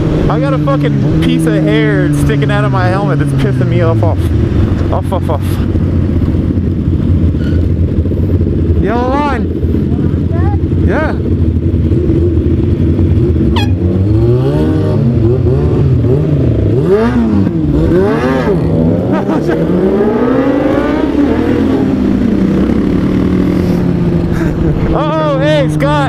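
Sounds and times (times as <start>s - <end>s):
motorcycles revving and accelerating: 0.0s - 26.0s.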